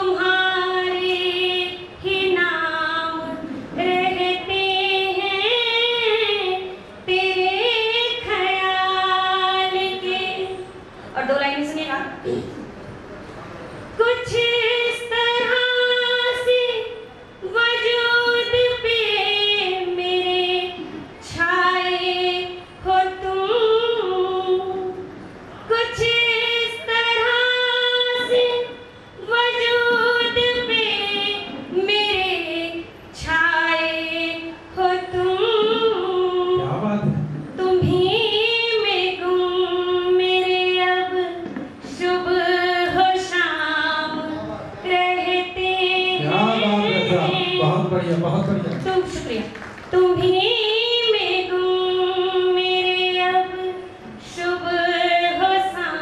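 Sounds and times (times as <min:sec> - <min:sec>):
woman singing unaccompanied: 0:00.0 - 0:12.0, 0:14.0 - 0:36.8, 0:37.5 - 0:47.9, 0:48.8 - 0:56.0.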